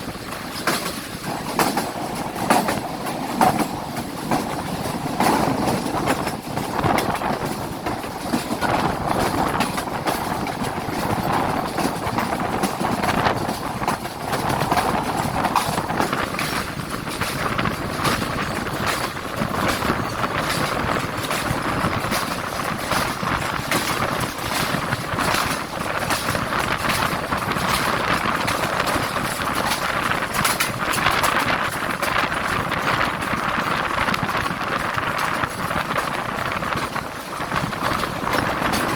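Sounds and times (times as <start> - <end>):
rattles and clacks: 0.0 - 38.9
train rumbling on track: 0.0 - 38.9.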